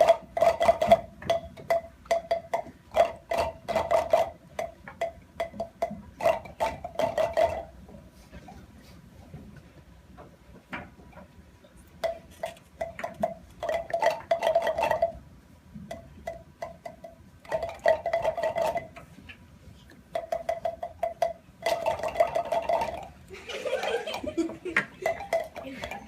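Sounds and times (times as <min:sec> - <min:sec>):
palm pipes popping: 0:00.0 - 0:07.9, 0:12.0 - 0:15.2, 0:15.8 - 0:26.0.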